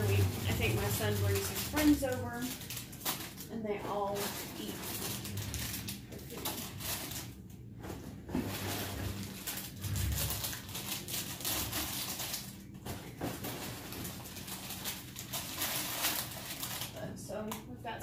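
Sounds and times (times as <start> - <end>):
boxes and bags rustling: 0.0 - 17.1.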